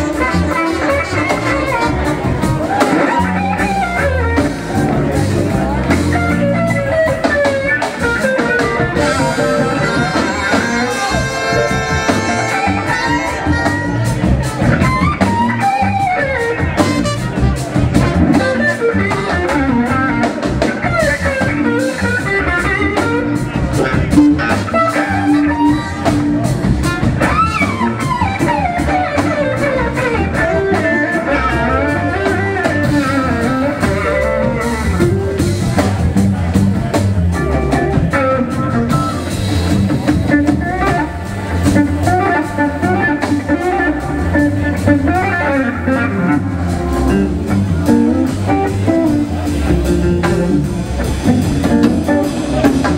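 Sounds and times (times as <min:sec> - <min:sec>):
blues-rock band playing: 0:00.0 - 0:52.9
electric guitar sliding lead: 0:00.0 - 0:52.9.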